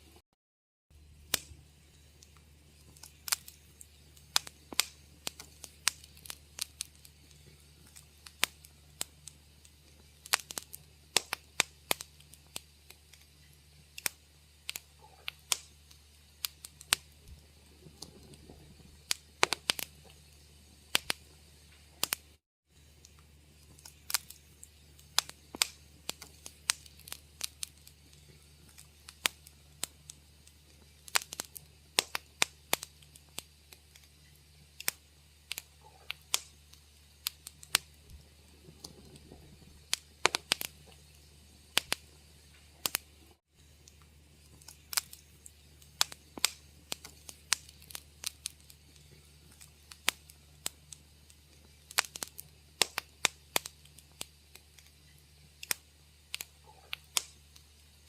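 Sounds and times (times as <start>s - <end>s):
steady low hum: 0.9s - 58.0s
wood fire crackling and popping: 1.0s - 58.0s.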